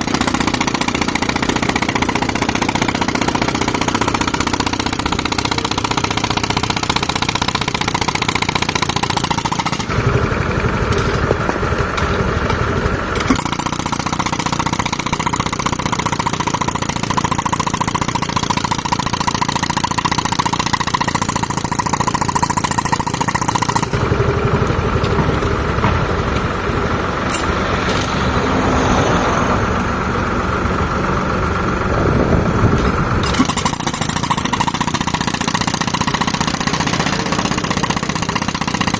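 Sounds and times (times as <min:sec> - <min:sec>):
pneumatic rock breaker hammering: 0:00.0 - 0:28.4, 0:32.0 - 0:38.9
tractor engine running: 0:00.0 - 0:38.9.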